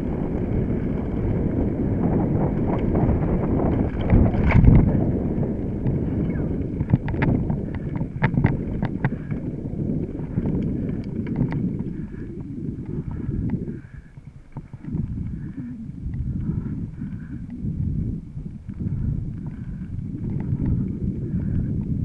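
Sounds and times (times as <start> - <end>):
bike clicks and rattles: 0.0 - 22.0
bike tyres rumbling on dirt: 0.0 - 22.0.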